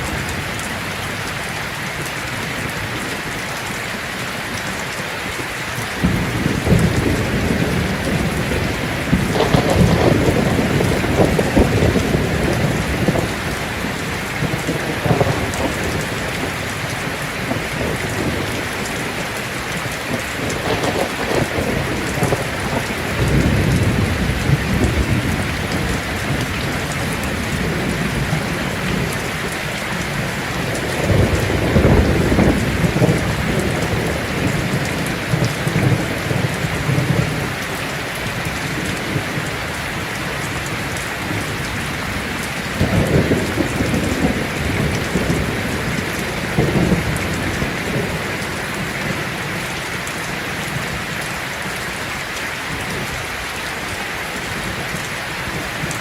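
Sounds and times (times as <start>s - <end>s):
rain on a tin roof: 0.0s - 56.0s
thunder rumbling: 5.7s - 51.5s.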